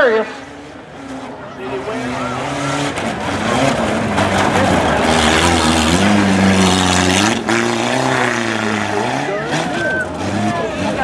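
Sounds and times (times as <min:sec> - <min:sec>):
pickup truck engine revving: 0:00.4 - 0:11.0.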